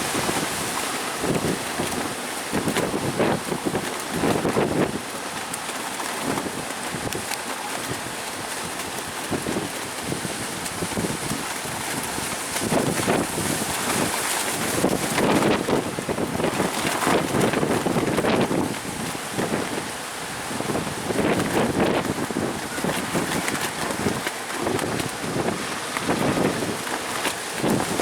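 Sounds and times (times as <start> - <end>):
sea waves rushing: 0.0 - 28.0
wind buffeting microphone: 0.0 - 28.0.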